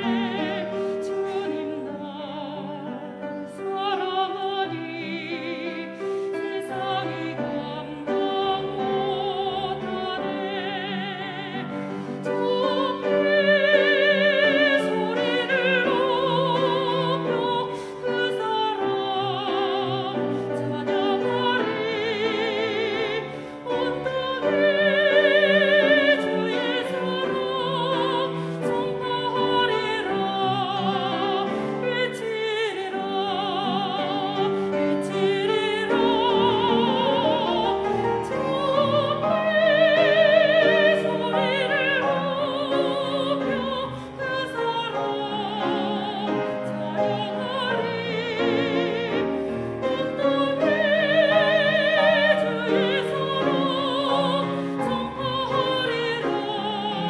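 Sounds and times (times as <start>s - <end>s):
woman singing a hymn: 0.0s - 57.0s.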